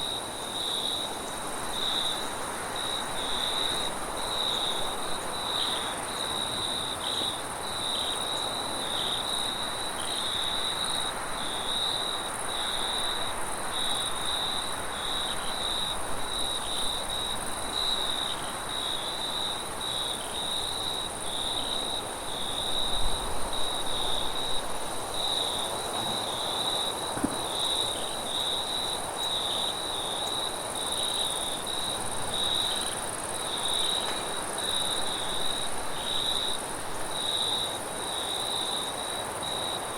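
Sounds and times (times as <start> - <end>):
crickets trilling: 0.0 - 39.9
high insect hiss: 0.0 - 39.9
wind: 0.0 - 39.9.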